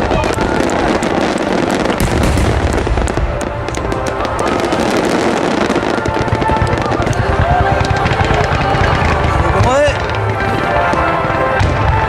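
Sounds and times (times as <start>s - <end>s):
faint music: 0.0s - 12.0s
fireworks booming and crackling: 0.0s - 12.0s.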